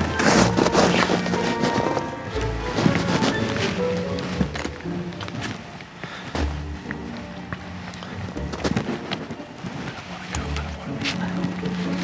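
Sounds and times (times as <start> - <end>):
background music with light beat: 0.0 - 12.0.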